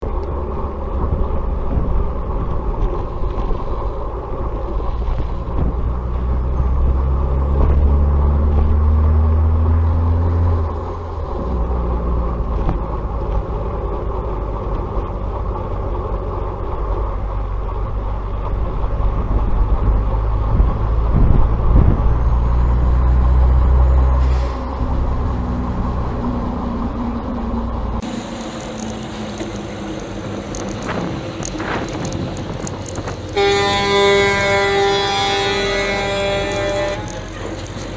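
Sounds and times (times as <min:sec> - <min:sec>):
truck engine revving: 0:00.0 - 0:37.9.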